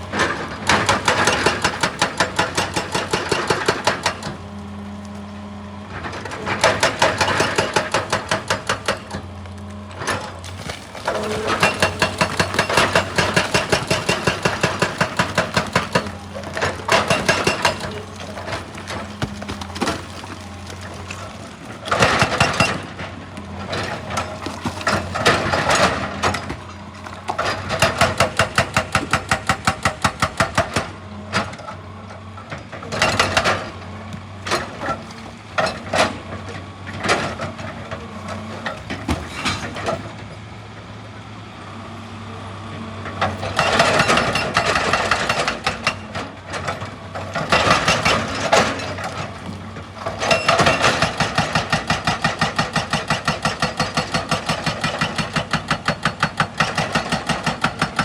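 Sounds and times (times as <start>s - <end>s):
hydraulic breaker hammering rock: 0.0s - 4.6s, 5.9s - 31.8s, 32.4s - 40.2s, 43.1s - 58.0s
excavator engine running: 0.0s - 58.0s.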